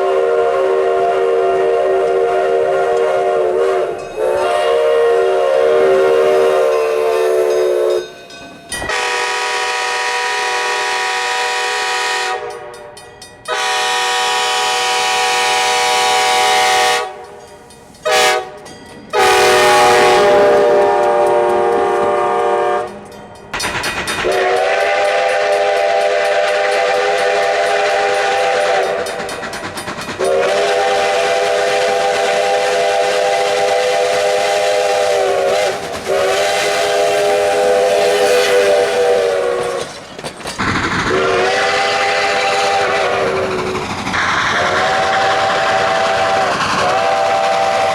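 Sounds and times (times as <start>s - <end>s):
locomotive chime whistle: 0.0s - 23.6s, 24.2s - 29.3s, 30.2s - 40.1s.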